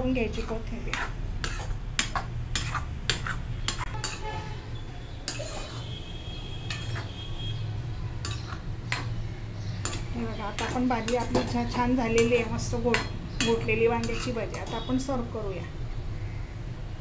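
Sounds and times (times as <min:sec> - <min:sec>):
spoon scraping metal pan: 0:00.2 - 0:04.6, 0:05.2 - 0:07.6, 0:08.2 - 0:15.1.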